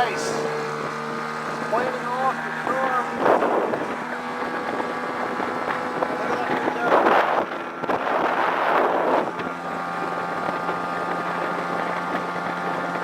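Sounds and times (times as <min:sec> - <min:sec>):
outboard motor at full throttle: 0:00.0 - 0:13.0
wind on microphone: 0:00.0 - 0:13.0.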